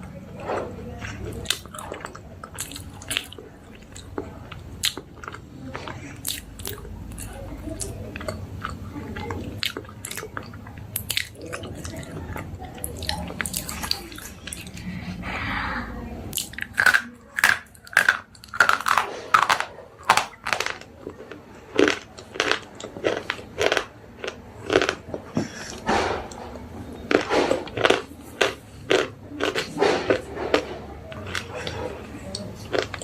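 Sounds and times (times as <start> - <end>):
slate pencils being chewed: 0.0 - 15.2, 16.3 - 33.0.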